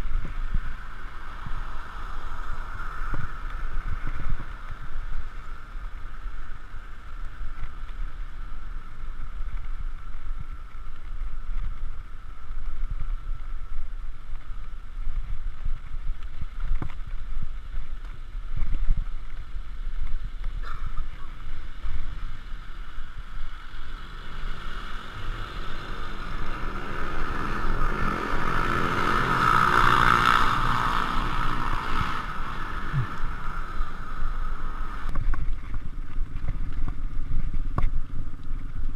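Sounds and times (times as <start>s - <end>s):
bicycle road rumble: 0.0s - 38.9s
wind noise: 0.0s - 38.9s.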